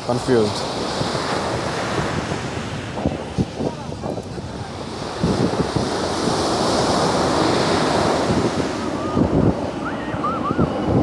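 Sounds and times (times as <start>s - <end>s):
waves breaking on shore: 0.0s - 11.0s
wind buffeting microphone: 0.0s - 11.0s.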